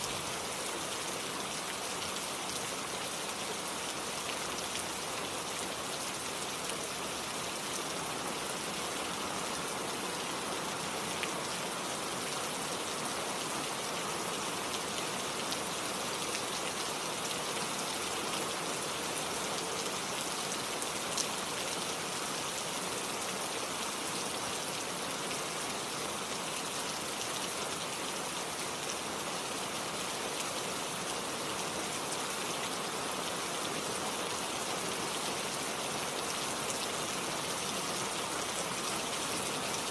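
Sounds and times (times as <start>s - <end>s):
flowing stream: 0.0s - 39.9s
steady rain: 0.0s - 39.9s.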